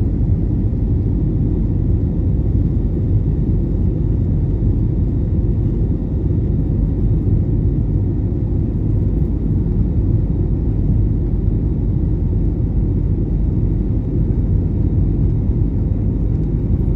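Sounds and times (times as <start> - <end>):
airliner cabin rumble: 0.0 - 16.9.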